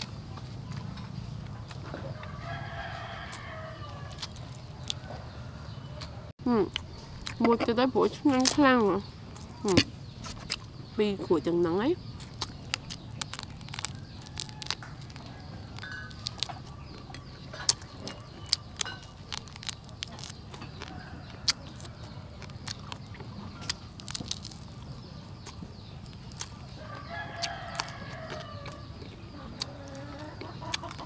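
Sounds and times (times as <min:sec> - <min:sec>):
chickens clucking: 0:00.0 - 0:10.8, 0:11.4 - 0:31.0
crunchy chewing of fried food: 0:00.0 - 0:31.0.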